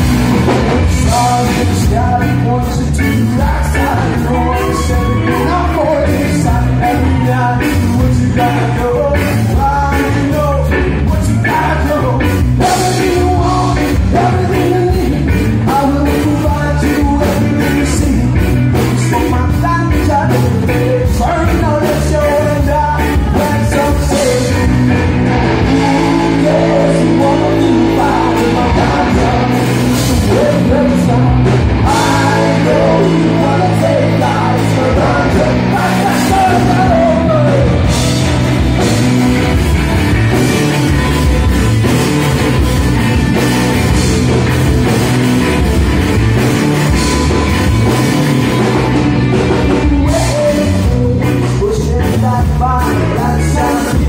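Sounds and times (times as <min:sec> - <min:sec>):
drum kit: 0:00.0 - 0:54.0
electric guitars: 0:00.0 - 0:54.0
person singing: 0:00.5 - 0:39.6, 0:49.5 - 0:54.0.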